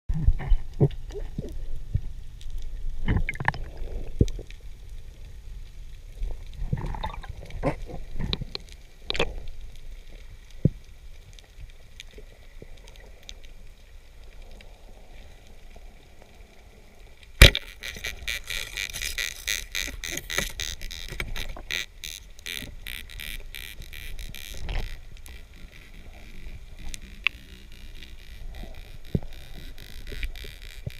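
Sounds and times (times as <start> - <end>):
crackle of fine clicks: 0.1 - 30.9
underwater rumble: 0.1 - 30.9.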